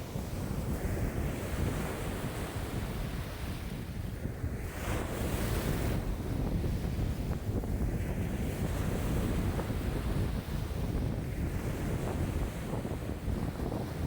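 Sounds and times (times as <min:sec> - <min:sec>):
waves breaking on shore: 0:00.0 - 0:14.0
wind buffeting microphone: 0:00.0 - 0:14.0.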